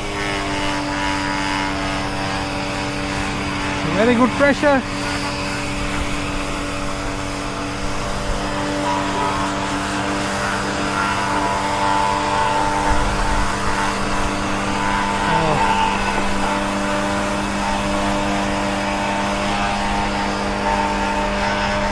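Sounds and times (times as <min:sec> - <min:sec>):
pressure washer motor hum: 0:00.0 - 0:21.9
water jet hissing: 0:00.0 - 0:21.9.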